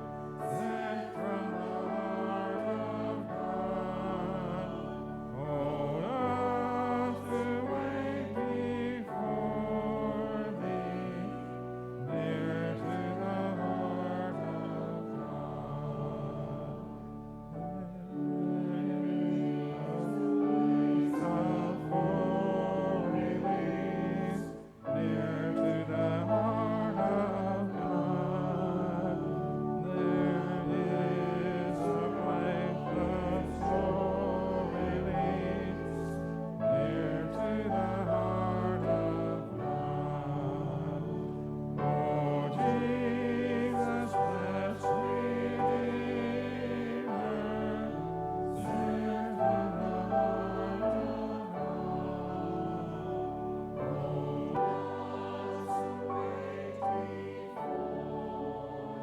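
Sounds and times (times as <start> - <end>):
sustained instrumental accompaniment: 0.0 - 59.0
voices singing a hymn: 0.0 - 59.0.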